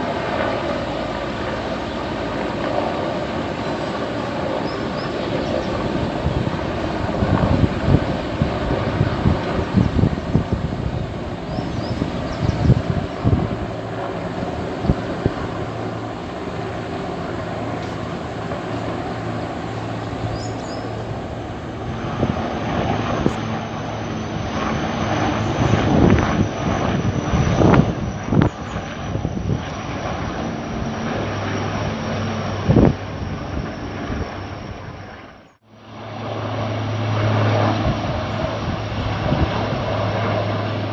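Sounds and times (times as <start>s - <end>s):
helicopter engine and rotor drone: 0.0s - 40.9s
wind buffeting microphone: 0.0s - 40.9s.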